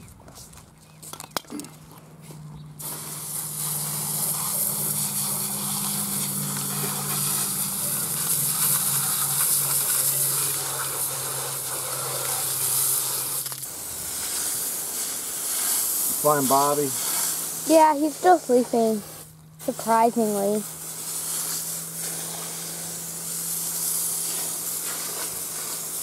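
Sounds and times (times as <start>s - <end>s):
steady low hum: 0.0s - 26.0s
pressure washer spraying: 2.8s - 26.0s.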